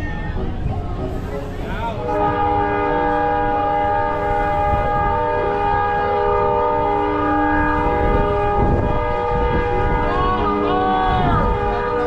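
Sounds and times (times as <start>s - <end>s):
locomotive low rumble: 0.0s - 12.0s
locomotive air horn chord: 1.9s - 12.0s.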